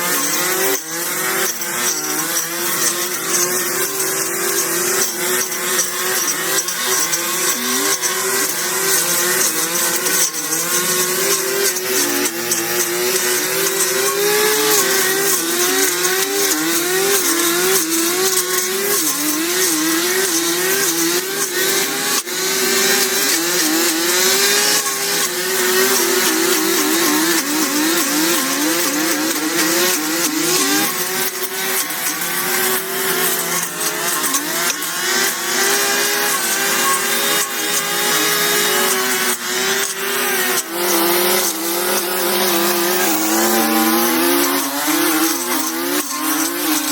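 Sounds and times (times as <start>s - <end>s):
small engine revving: 0.0s - 46.9s.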